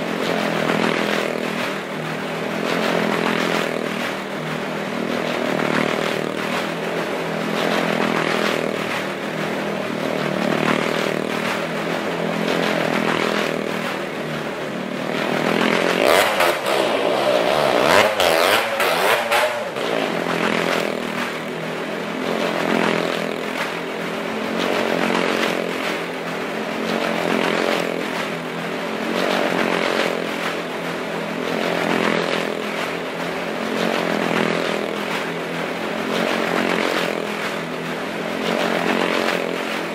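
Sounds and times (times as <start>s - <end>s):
motorcycle engine revving: 0.0s - 39.9s
motorcycle engines circling: 0.0s - 39.9s.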